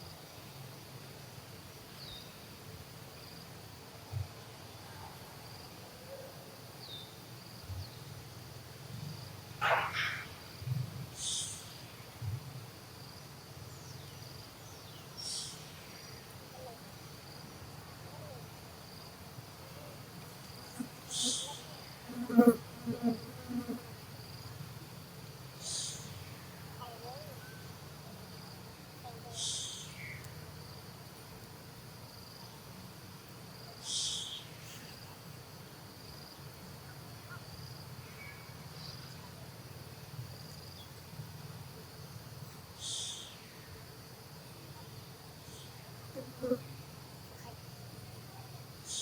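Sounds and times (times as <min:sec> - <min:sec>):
insect drone: 0:00.0 - 0:49.0.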